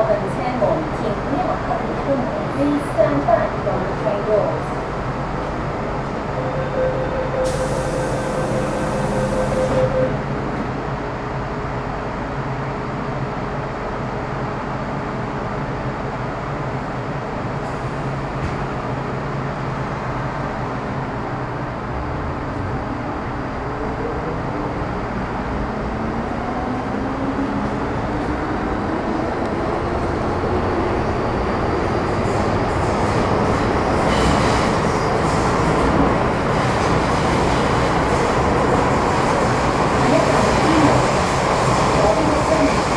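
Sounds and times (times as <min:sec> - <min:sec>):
rising whine of train drive: 0:00.0 - 0:42.9
train wheels rumbling on rail: 0:00.0 - 0:42.9.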